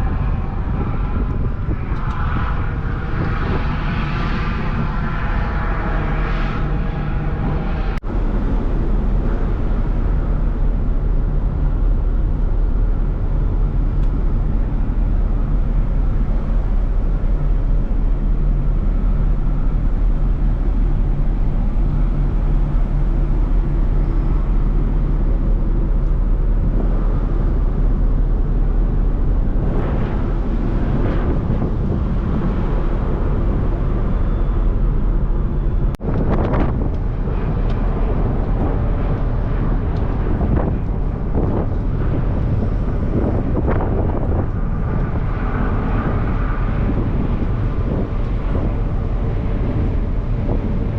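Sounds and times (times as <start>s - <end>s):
ferry engines droning: 0.0s - 50.9s
wind buffeting microphone: 0.0s - 50.9s.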